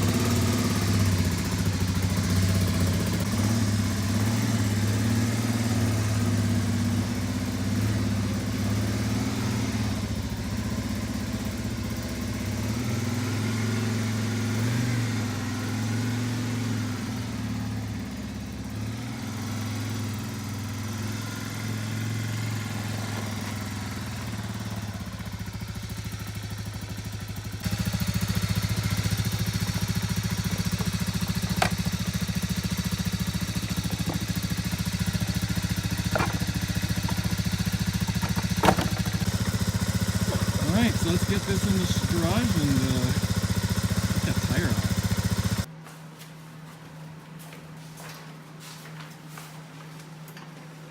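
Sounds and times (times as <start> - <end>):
single-cylinder engine idling: 0.0 - 45.7.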